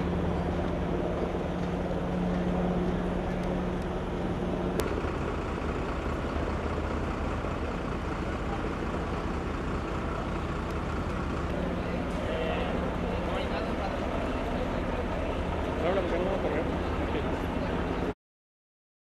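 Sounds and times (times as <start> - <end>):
vehicle engine idling: 0.0 - 18.1.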